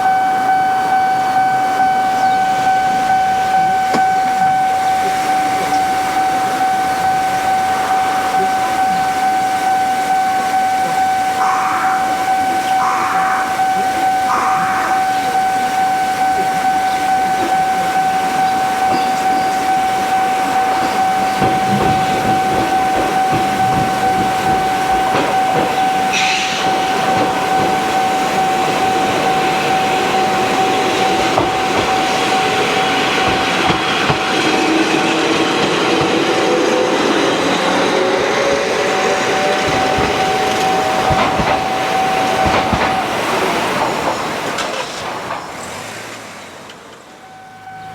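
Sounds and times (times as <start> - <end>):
rising whine: 0.0 - 44.2
level-crossing alarm bell: 0.0 - 47.9
train wheels clattering: 0.0 - 47.9.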